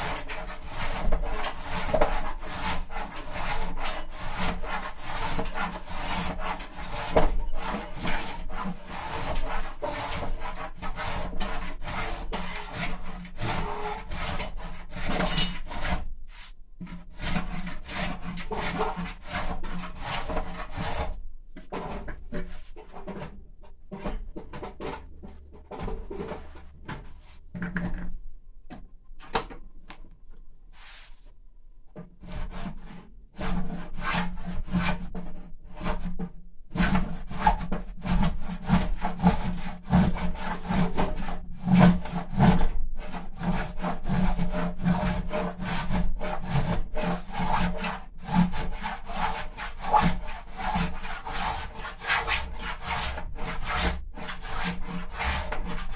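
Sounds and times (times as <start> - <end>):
carving tool scraping wood: 0.0 - 27.4, 36.8 - 55.9.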